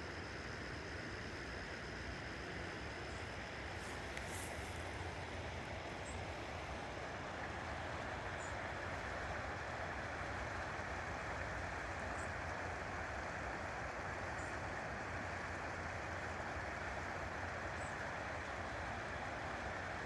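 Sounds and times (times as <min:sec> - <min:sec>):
river water flowing: 0:02.5 - 0:20.0.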